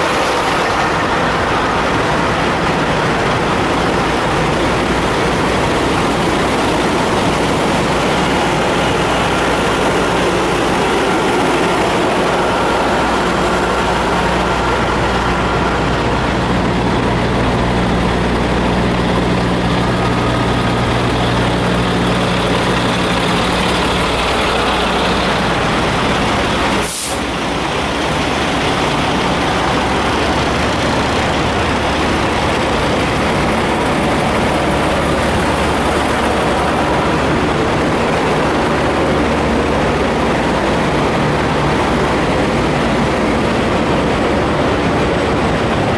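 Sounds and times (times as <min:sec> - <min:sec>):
truck engines idling: 0:00.0 - 0:45.9.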